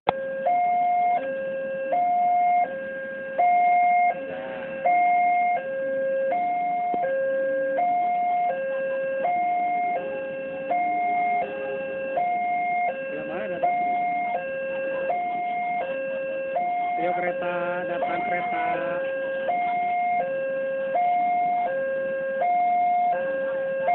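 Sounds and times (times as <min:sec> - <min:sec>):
electronic hi-lo warning tone: 0:00.1 - 0:23.9.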